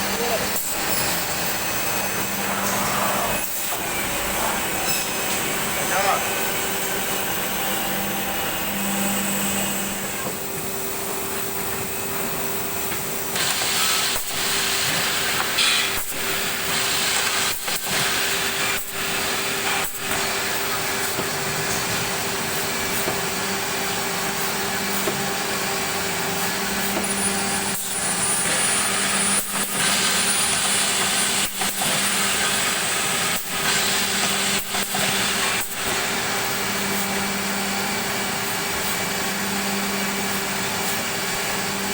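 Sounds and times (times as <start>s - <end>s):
drilling machine whirring: 0.0s - 41.9s.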